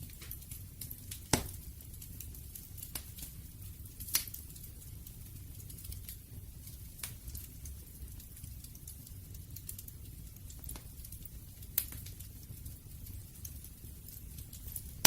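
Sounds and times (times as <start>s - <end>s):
campfire crackling pops: 0.0s - 15.0s
low rumble of burning wood: 0.0s - 15.0s.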